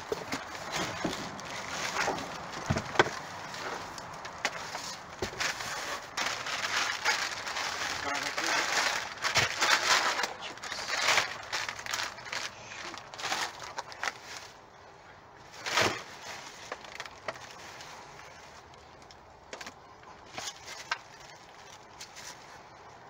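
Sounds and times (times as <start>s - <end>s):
plastic packaging crinkling: 0.0s - 14.6s, 15.6s - 22.5s.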